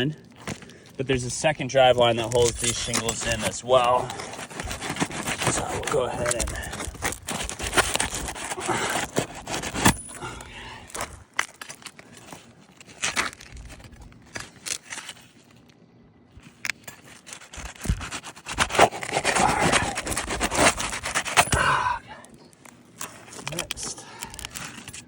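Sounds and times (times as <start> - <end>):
roof shingles scraping and crackling: 0.1 - 15.7, 16.5 - 21.6.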